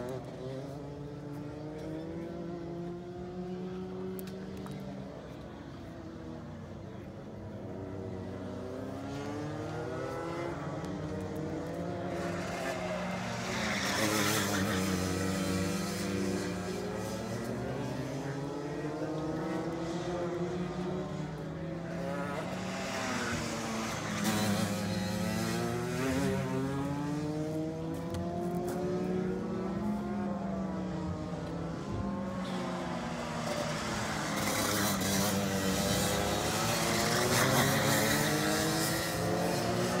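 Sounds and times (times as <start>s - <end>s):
kart engines revving: 0.0s - 40.0s.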